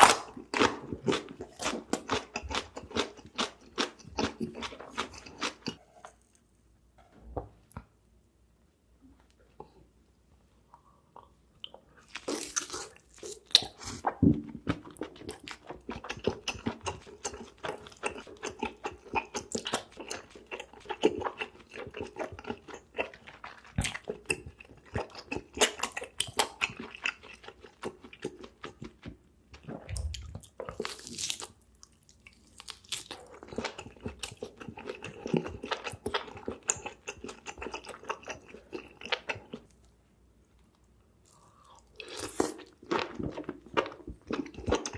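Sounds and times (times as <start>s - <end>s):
person chewing and crunching food: 0.0s - 6.4s, 10.7s - 40.0s, 40.6s - 44.9s.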